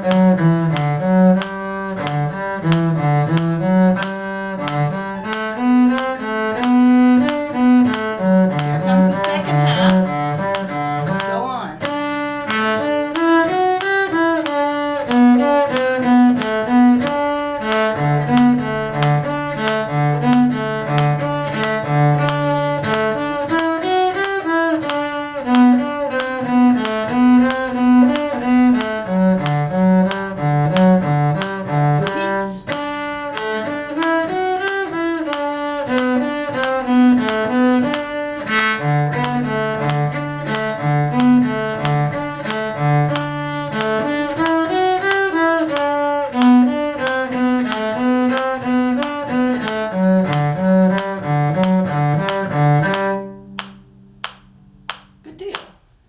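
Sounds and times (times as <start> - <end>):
bowed strings playing a tune: 0.0 - 55.1.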